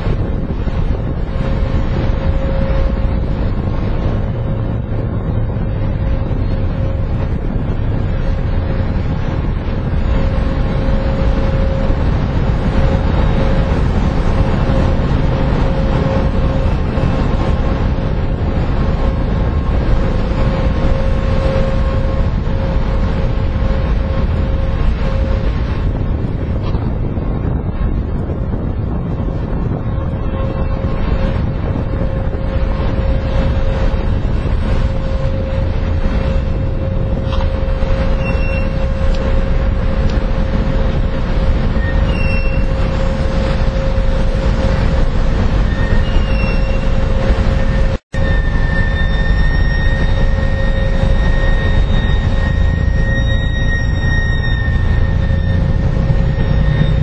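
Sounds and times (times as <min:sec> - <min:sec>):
ship engine low rumble: 0:00.0 - 0:57.0
wind buffeting microphone: 0:00.0 - 0:57.0.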